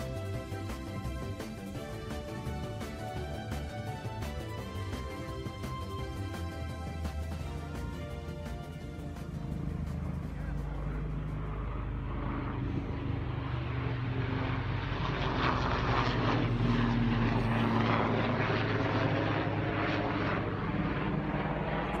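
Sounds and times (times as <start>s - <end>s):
steady engine drone: 0.0s - 22.0s.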